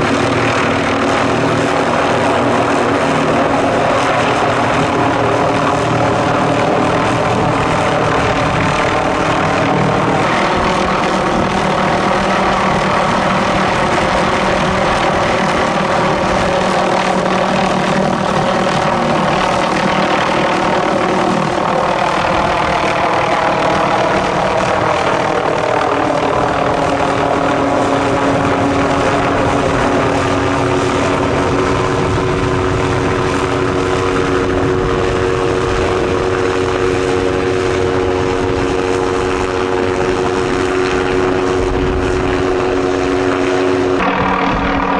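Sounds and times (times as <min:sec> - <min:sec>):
helicopter engine and rotors droning: 0:00.0 - 0:44.9.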